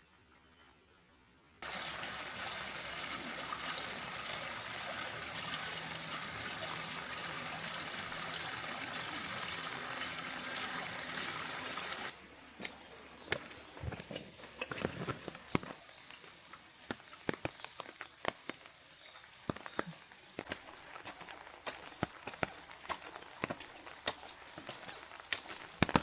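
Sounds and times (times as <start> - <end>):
water trickling and splashing: 1.6 - 26.0.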